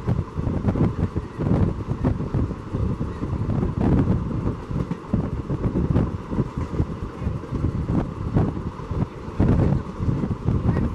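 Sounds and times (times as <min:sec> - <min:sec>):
wheels rumbling on rail: 0:00.0 - 0:10.9.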